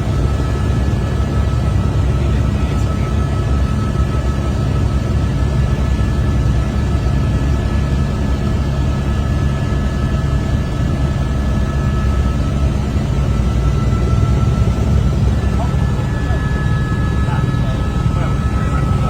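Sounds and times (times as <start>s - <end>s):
faint high whine: 0.0s - 19.0s
helicopter engine and rotor noise: 0.0s - 19.0s.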